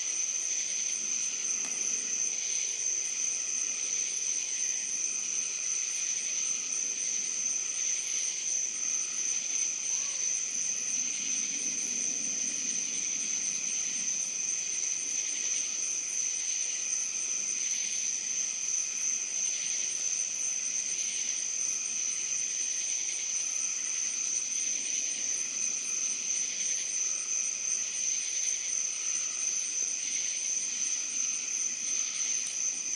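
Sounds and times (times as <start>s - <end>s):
insects trilling: 0.0s - 32.9s.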